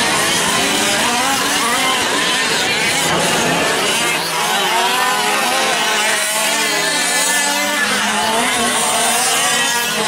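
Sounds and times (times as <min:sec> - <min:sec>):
small two-stroke engines revving: 0:00.0 - 0:10.0.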